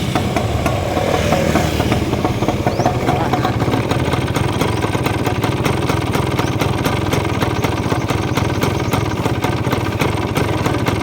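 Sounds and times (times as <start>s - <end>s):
two-stroke engine idling: 0.0s - 11.0s.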